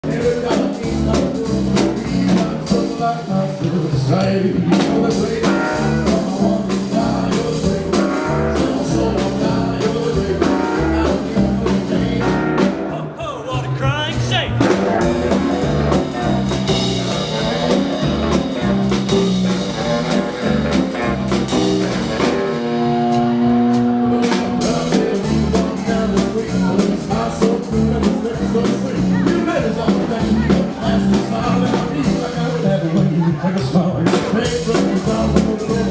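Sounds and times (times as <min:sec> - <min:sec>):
person singing: 0:00.0 - 0:22.8, 0:23.8 - 0:35.9
drum kit: 0:00.0 - 0:35.9
guitar: 0:00.0 - 0:35.9
live blues band: 0:00.0 - 0:35.9.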